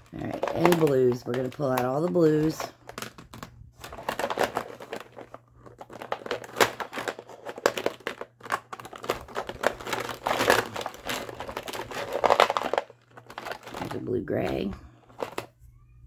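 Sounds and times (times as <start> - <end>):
plastic markers clattering: 0.0 - 15.5.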